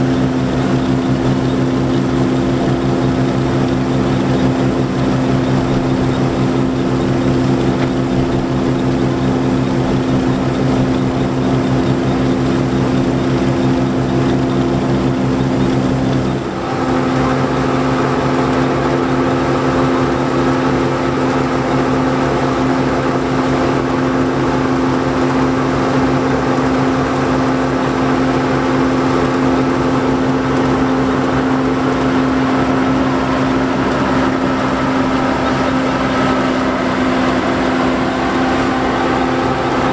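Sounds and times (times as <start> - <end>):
diesel engine running under load: 0.0 - 39.9
threshing machinery turning: 0.0 - 39.9.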